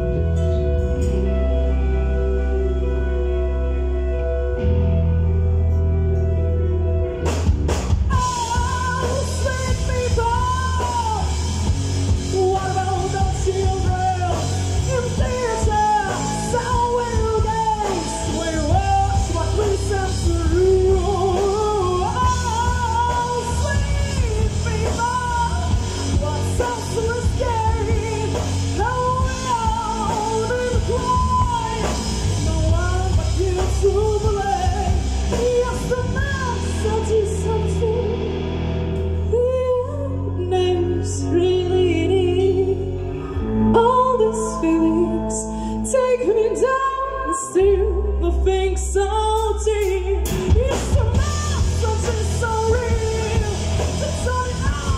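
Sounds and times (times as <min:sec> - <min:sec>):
rock band playing: 0:00.0 - 0:46.7, 0:49.2 - 0:54.9
woman singing: 0:08.1 - 0:38.5, 0:39.1 - 0:54.9.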